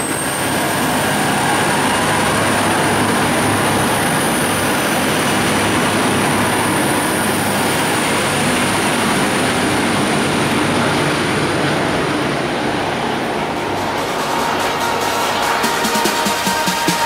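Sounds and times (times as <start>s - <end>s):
diesel railcar rumbling: 0.0s - 17.0s.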